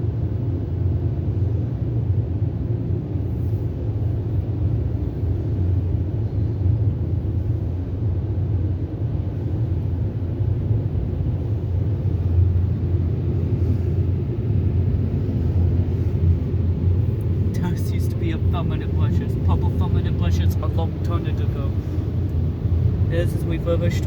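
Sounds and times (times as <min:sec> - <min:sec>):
car wash low rumble: 0:00.0 - 0:24.0.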